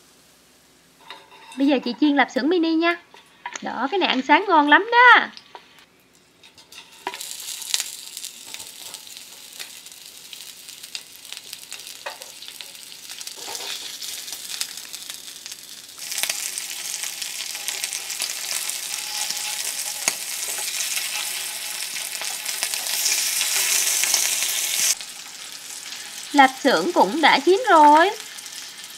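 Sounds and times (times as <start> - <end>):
sausages sizzling in hot oil: 0.0 - 28.9.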